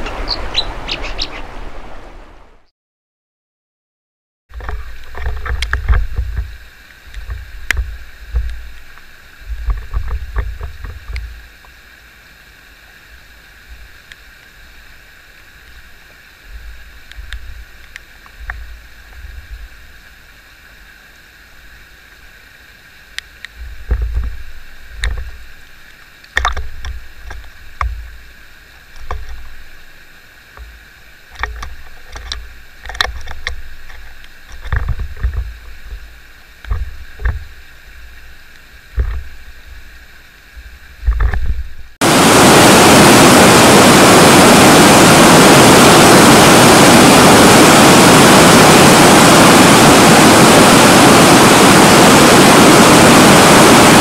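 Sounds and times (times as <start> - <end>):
stream water rushing: 0.0 - 2.7, 4.6 - 54.0.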